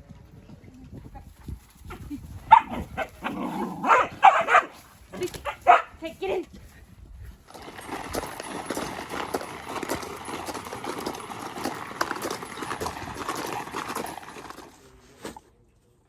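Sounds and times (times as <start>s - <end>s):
horse hooves galloping: 0.0s - 15.4s.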